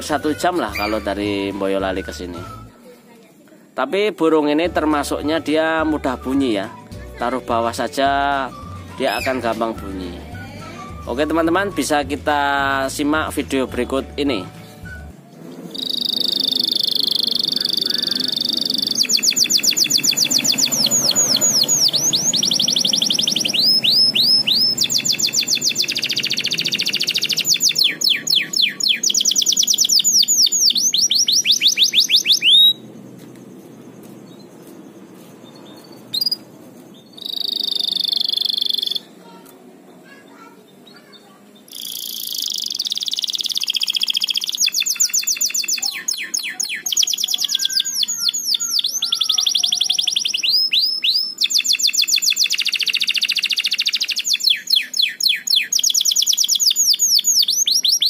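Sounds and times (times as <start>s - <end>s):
canary singing trills: 0.0s - 2.9s, 4.5s - 13.1s, 13.9s - 39.4s, 40.0s - 58.0s.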